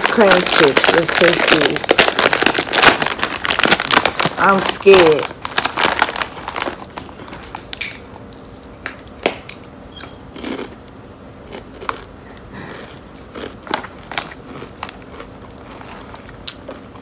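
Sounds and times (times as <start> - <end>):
chips crunching: 0.0 - 9.7, 10.3 - 17.0.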